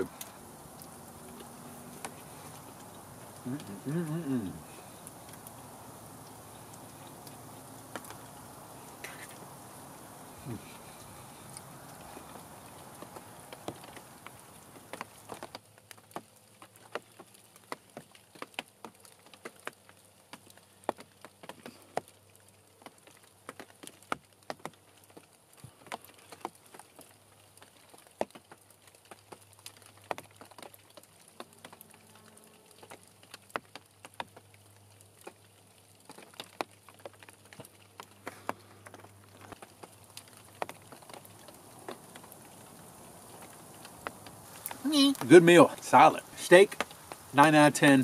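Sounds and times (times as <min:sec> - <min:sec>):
sleet ticking on dry leaves: 0:00.0 - 0:48.0.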